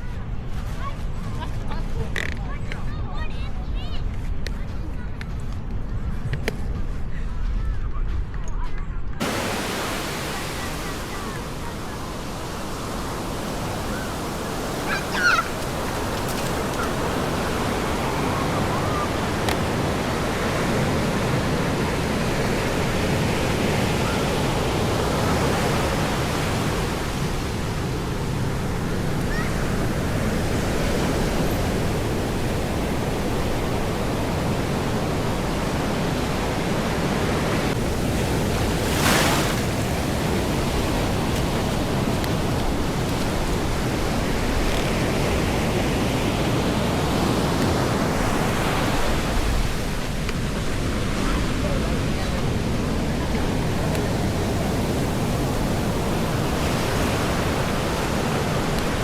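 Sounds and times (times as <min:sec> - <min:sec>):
ocean surf breaking: 0:09.2 - 0:59.0.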